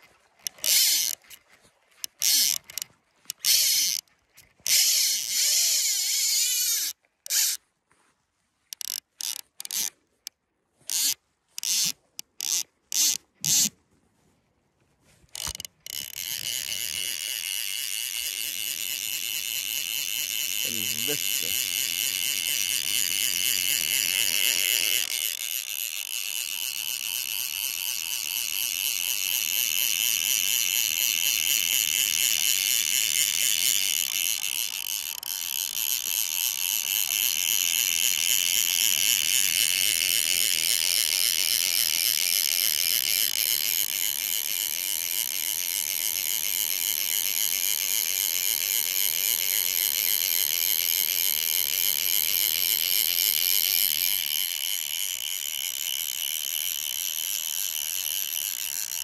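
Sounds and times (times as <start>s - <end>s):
fly reel ratchet buzzing: 0.0s - 7.6s, 8.7s - 9.9s, 10.9s - 13.7s, 15.3s - 59.0s.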